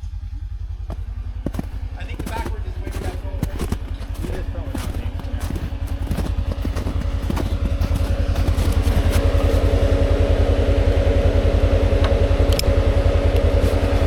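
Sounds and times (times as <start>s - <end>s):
engine running: 0.0s - 14.0s
steady whine: 0.0s - 14.0s.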